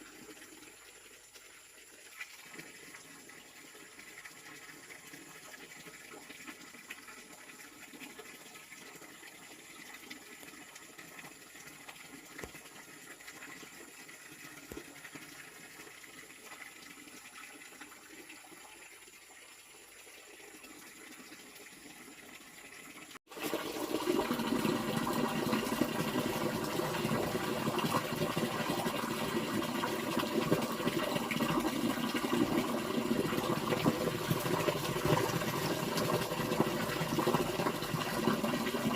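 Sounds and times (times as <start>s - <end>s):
water filling a container: 0.0s - 38.9s.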